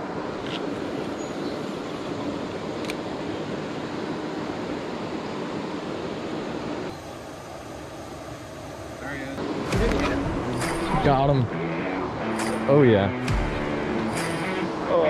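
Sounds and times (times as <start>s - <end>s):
river current over riffles: 0.0s - 15.0s.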